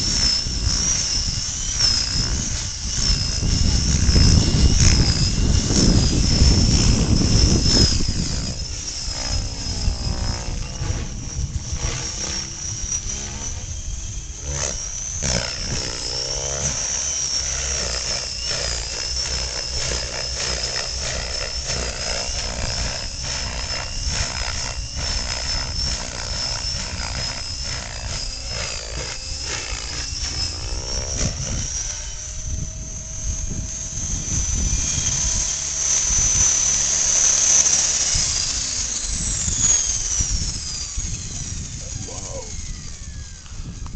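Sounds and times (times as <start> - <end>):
low rotor noise: 0.0 - 43.9
model helicopter motor whine: 0.0 - 43.9.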